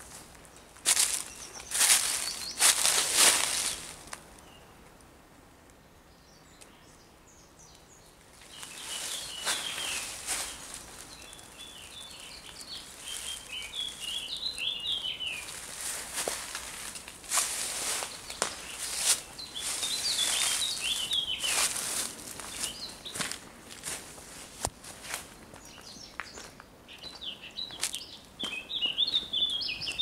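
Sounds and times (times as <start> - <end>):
footsteps through undergrowth: 0.0 - 4.2, 8.4 - 30.0
small birds chirping: 0.5 - 4.8, 6.0 - 24.0, 25.3 - 30.0.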